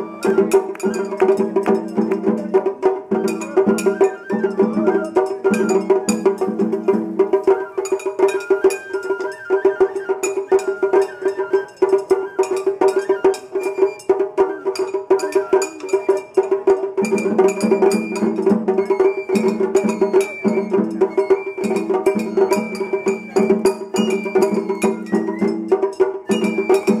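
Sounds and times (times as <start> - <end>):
bamboo flute high notes: 0.0 - 27.0.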